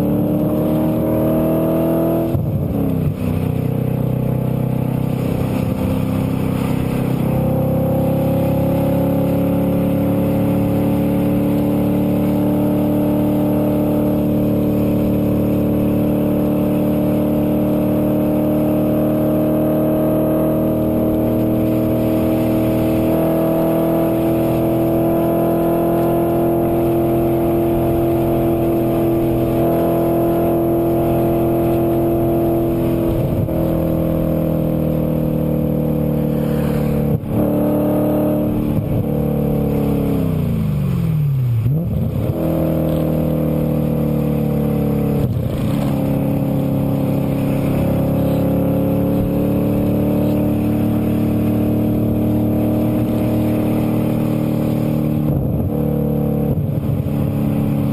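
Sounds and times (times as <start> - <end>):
car engine revving inside cabin: 0.0 - 57.9.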